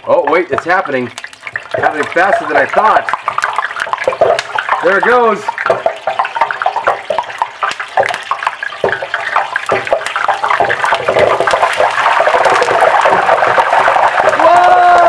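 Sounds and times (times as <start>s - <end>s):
hot oil crackling and sizzling: 0.0s - 15.0s.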